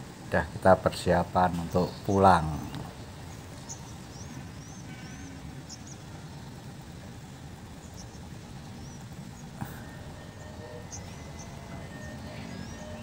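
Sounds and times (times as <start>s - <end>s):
bird chirping: 0.6s - 13.0s.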